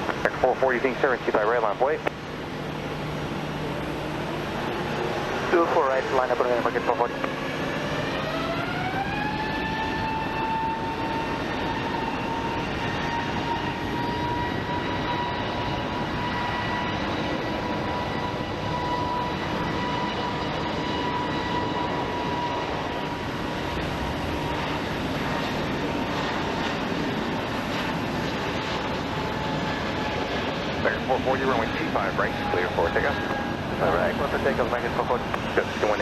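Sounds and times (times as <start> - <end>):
jet engines roaring at takeoff: 0.0 - 36.0.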